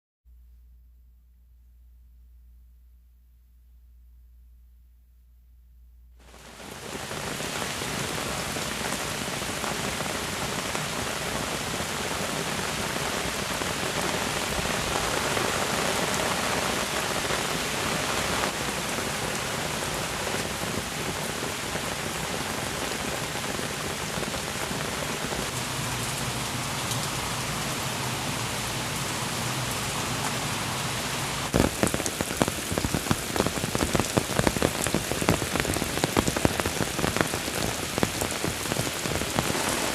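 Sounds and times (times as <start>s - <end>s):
heavy rain pouring: 6.2s - 39.9s.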